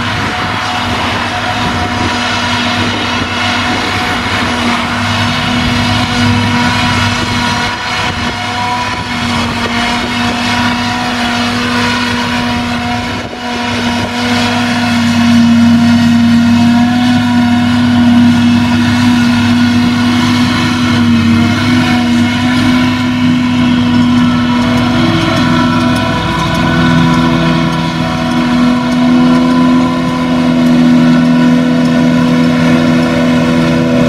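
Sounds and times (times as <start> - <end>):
harvester engine drone: 0.0 - 34.0
machinery whine: 0.0 - 34.0
tractor engine: 0.0 - 34.0.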